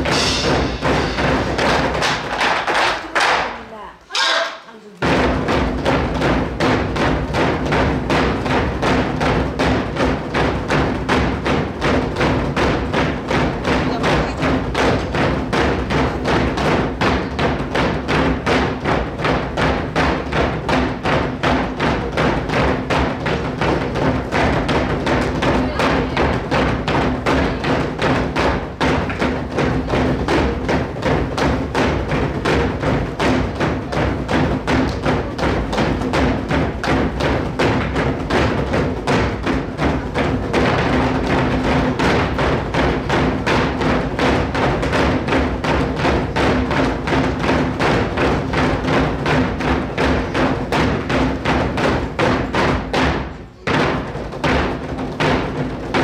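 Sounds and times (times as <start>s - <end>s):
group drumming with sticks: 0.0s - 56.0s.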